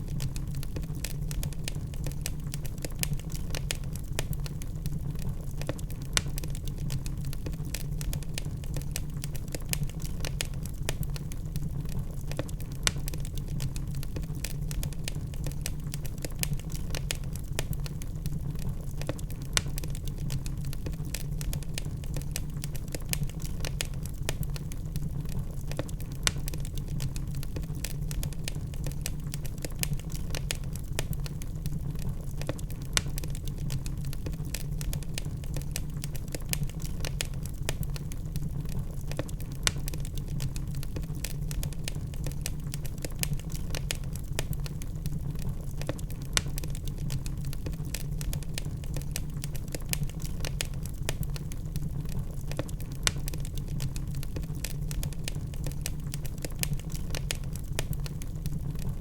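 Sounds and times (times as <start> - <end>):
log fire crackling: 0.0 - 59.0.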